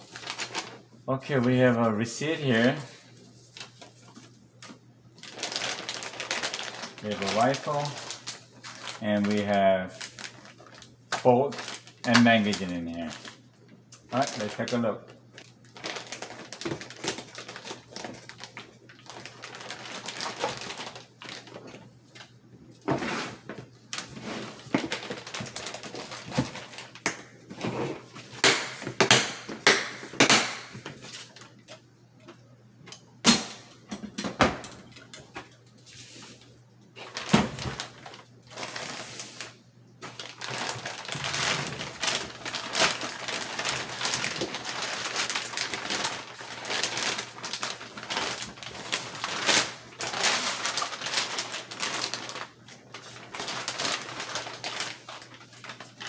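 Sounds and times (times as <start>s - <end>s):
plastic bags crinkling: 0.0s - 22.4s, 23.3s - 27.1s, 37.0s - 56.0s.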